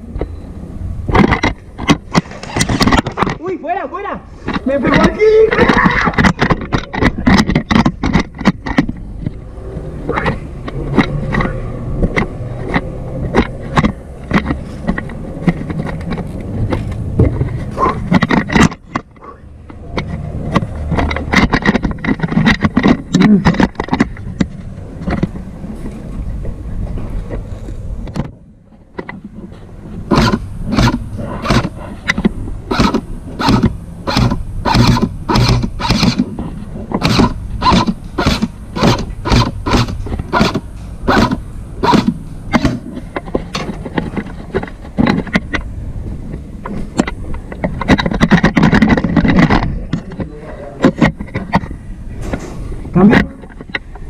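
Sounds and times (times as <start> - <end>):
gear rattling: 4.4 - 26.2, 30.0 - 54.0.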